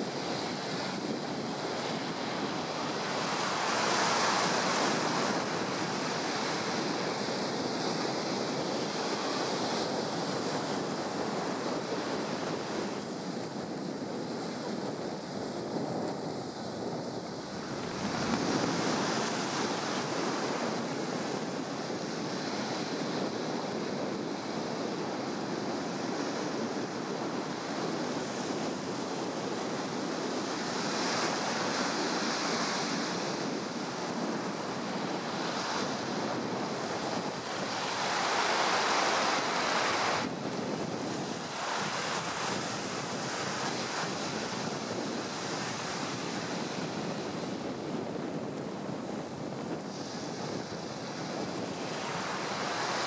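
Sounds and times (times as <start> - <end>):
surf breaking on beach: 0.0 - 53.0
wind buffeting microphone: 0.0 - 53.0.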